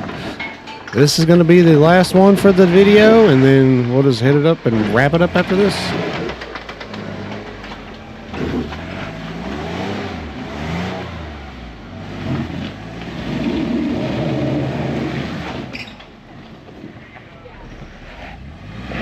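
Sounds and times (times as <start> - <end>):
jeep engine revving: 1.0 - 19.0.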